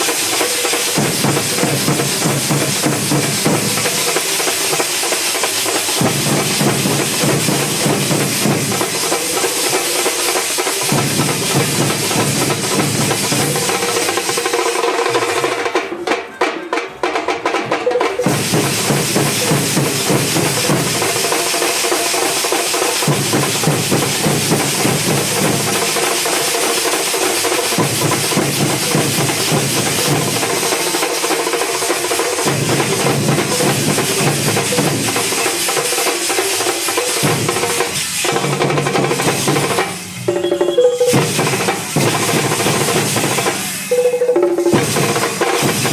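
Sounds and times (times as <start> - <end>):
steady high hiss: 0.0 - 16.2, 17.9 - 45.9
band drumming: 0.0 - 45.9.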